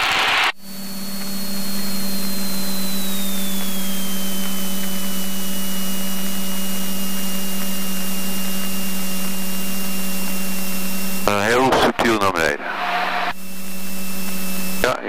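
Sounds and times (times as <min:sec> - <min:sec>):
airplane engine droning: 0:00.1 - 0:15.0
faint high whine: 0:00.2 - 0:15.0.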